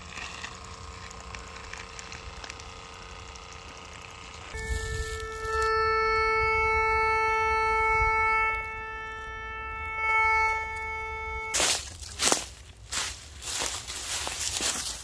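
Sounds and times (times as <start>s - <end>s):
metal detector buzzy tone: 0.0s - 15.0s.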